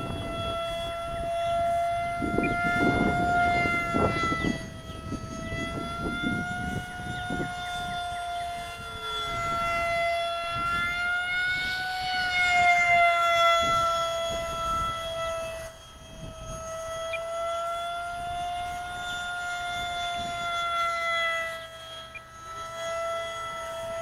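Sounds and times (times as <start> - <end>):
electric ducted fan whine: 0.0 - 24.0.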